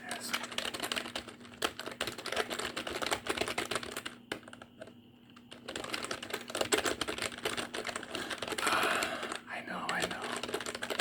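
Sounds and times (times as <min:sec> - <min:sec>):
fast typing on keyboard: 0:00.0 - 0:11.0.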